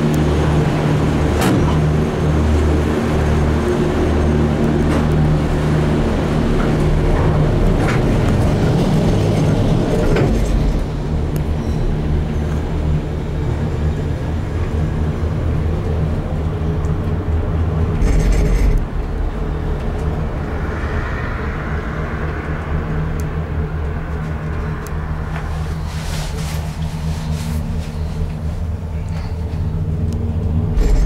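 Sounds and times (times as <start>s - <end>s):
gondola low mechanical rumble: 0.0s - 31.0s
gondola rattle: 0.0s - 31.0s.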